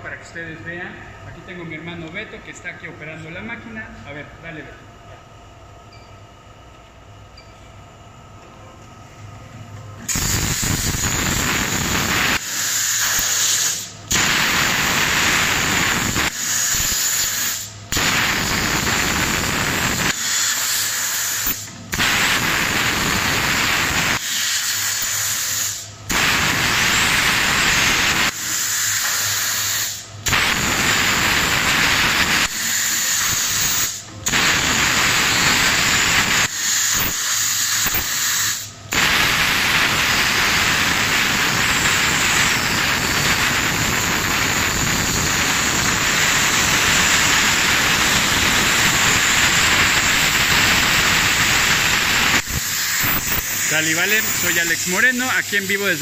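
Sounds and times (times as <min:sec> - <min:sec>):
plasma torch hissing: 0:10.0 - 0:56.0.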